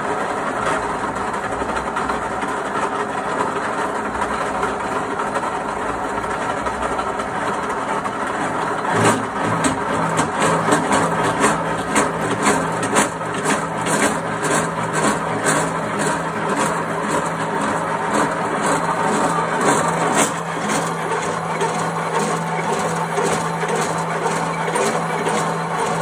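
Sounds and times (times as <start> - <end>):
drilling machine motor hum: 0.0 - 26.0.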